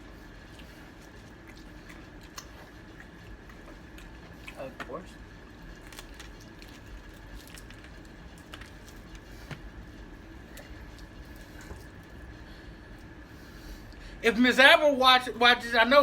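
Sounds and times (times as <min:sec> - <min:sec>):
people chewing: 0:00.0 - 0:14.1.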